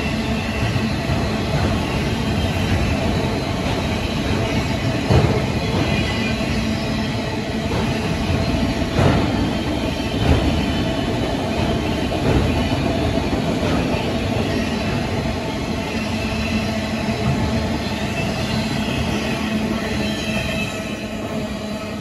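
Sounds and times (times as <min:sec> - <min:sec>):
train clunks: 0:00.0 - 0:22.0
train wheels rumbling on rail: 0:00.0 - 0:22.0.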